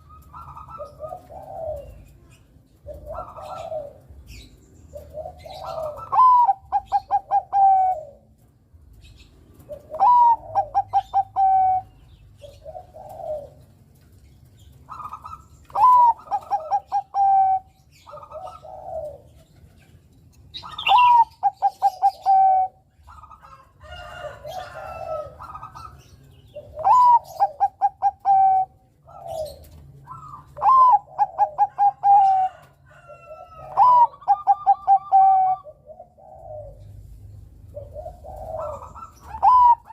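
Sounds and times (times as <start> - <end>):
dove cooing: 0.0 - 8.5, 9.1 - 19.9, 20.5 - 39.9.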